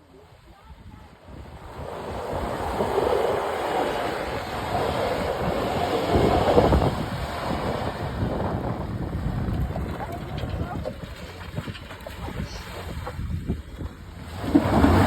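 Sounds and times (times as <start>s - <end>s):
pickup truck rumbling: 1.3s - 15.0s.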